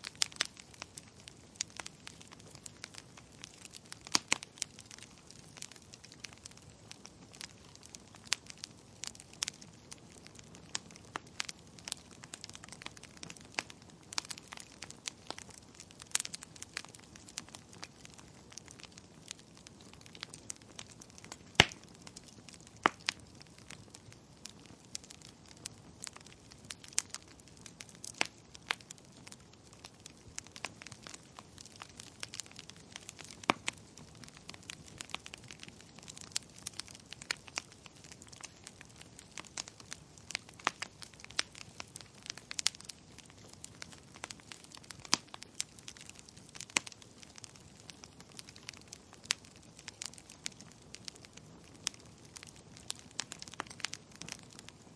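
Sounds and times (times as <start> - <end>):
fireplace fire crackling: 0.0 - 54.9
soft steady hiss: 0.0 - 54.9.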